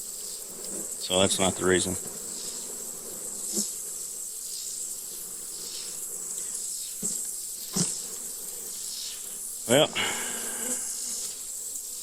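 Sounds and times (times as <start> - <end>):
honeybees buzzing: 0.0 - 12.0
steady high hiss: 0.0 - 12.0.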